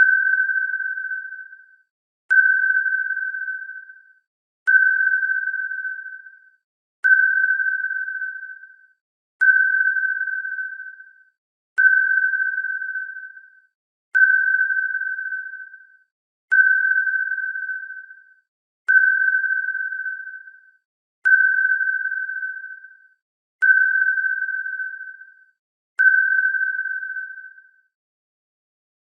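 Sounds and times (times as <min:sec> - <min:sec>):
sonar ping: 0:00.0 - 0:28.0.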